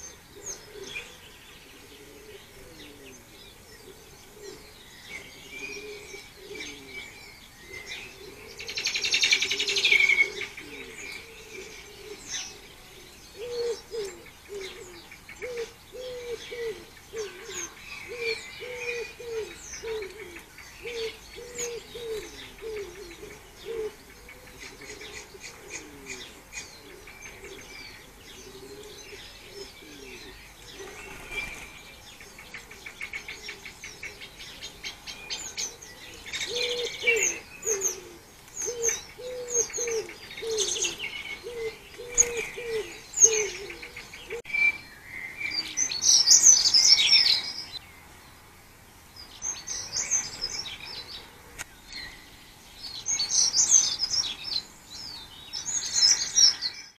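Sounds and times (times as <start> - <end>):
low repeated cooing: 0.0 - 47.8, 49.4 - 52.1
small birds singing and chirping: 0.0 - 57.0.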